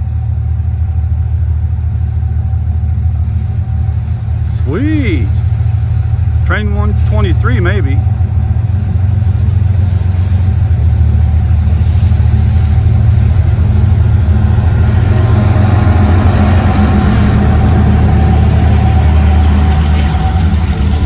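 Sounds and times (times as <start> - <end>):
locomotive engines deep drone: 0.0 - 21.0.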